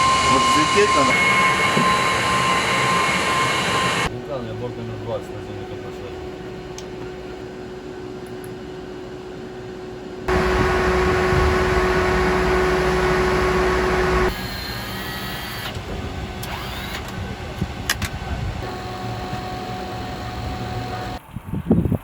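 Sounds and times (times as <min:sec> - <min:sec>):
aircraft engines droning: 0:00.0 - 0:21.2.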